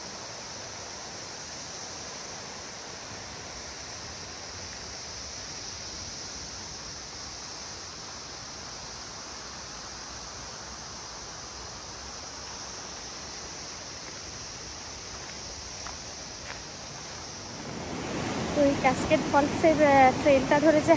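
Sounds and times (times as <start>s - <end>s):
river rushing over rocks: 0.0s - 20.9s.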